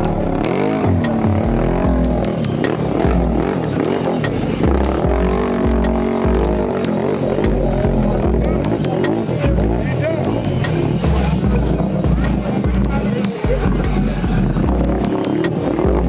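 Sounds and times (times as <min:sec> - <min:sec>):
atv engine revving: 0:00.0 - 0:16.0
music with deep bass beat: 0:00.0 - 0:16.0.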